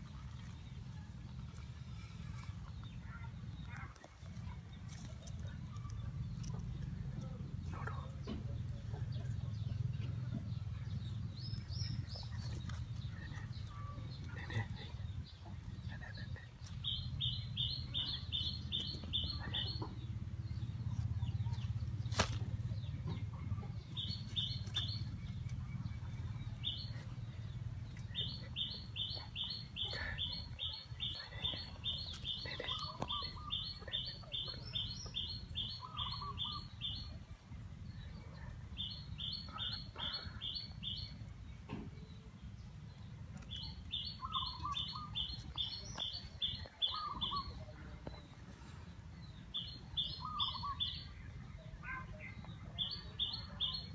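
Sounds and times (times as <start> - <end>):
steady low rumble: 0.0 - 50.0.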